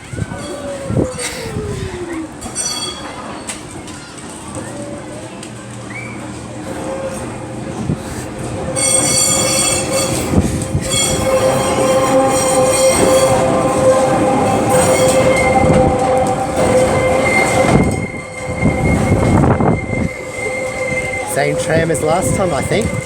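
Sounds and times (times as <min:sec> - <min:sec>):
rail vehicle rolling on track: 0:00.0 - 0:23.0
train wheels squealing on rails: 0:00.0 - 0:23.0.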